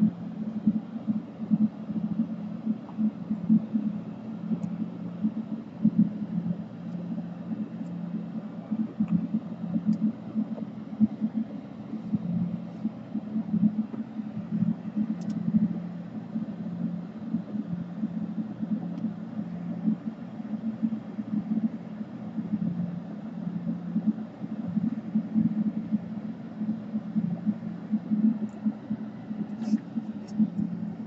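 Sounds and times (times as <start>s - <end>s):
fluttering low hum: 0.0s - 31.0s.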